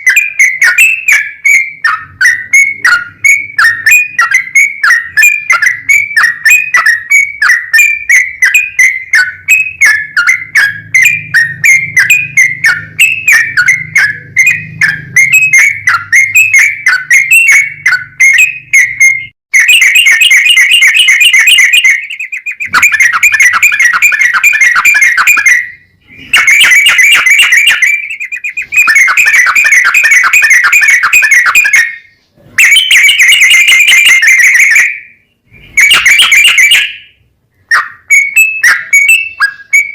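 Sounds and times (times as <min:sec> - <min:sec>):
bulbul chirpy song notes: 0:00.0 - 0:39.9
loud rapid bird trills: 0:00.0 - 0:39.9.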